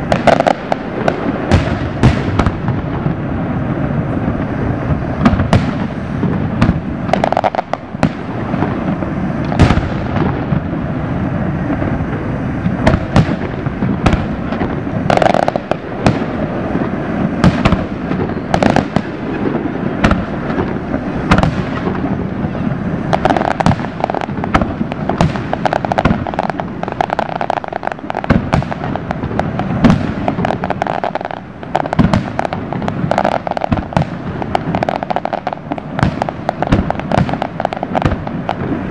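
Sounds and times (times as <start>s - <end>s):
fireworks shells booming: 0.0s - 38.9s
rumble of fireworks reports: 0.0s - 38.9s.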